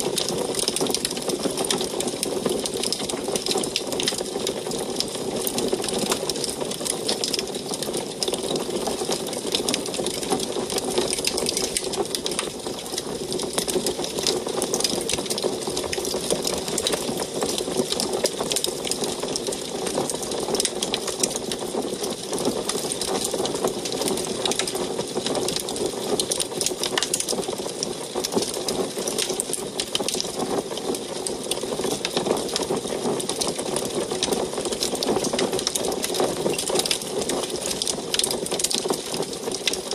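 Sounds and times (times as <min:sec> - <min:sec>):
rushing of burning fire: 0:00.0 - 0:39.9
wood fire crackling: 0:00.0 - 0:39.9.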